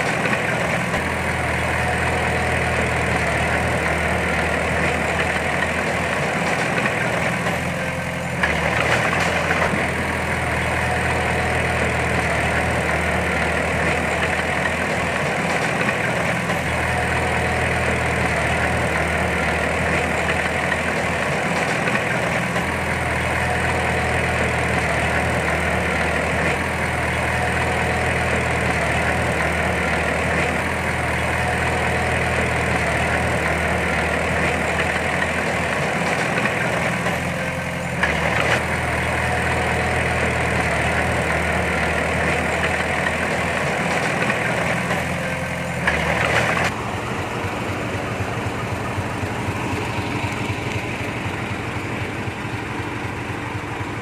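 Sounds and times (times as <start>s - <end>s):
large diesel engine running: 0.0s - 54.0s.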